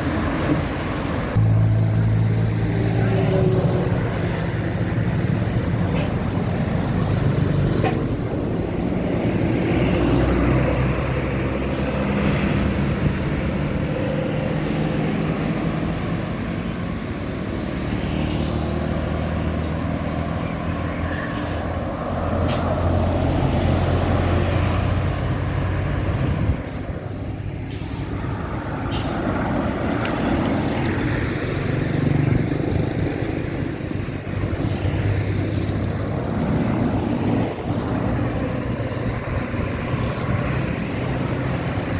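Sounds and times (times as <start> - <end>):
diesel buses and trucks passing: 0.0 - 41.9.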